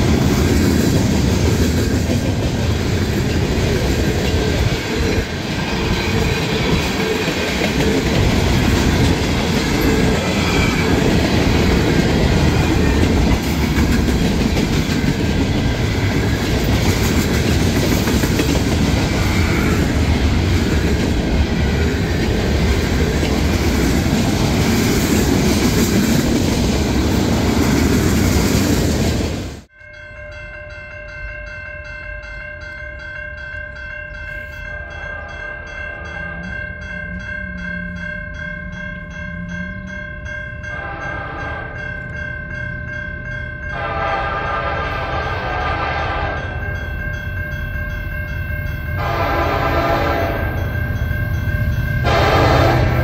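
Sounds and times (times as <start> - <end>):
crossing bell ringing: 0.0 - 26.6, 29.6 - 53.0
freight train rumbling past: 0.0 - 29.7, 33.4 - 53.0.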